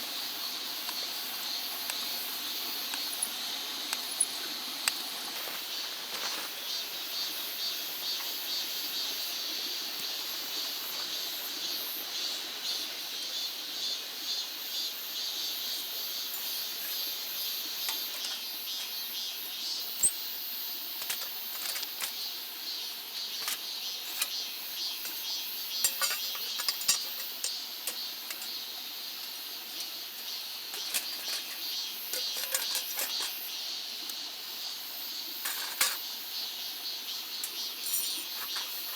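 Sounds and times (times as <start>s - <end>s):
pulsing insect chorus: 0.0s - 38.9s.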